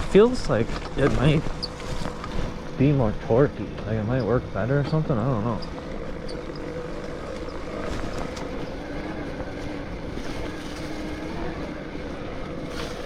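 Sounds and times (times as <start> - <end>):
electric bike motor whining: 0.0 - 13.0
wind and tyre noise: 0.0 - 13.0.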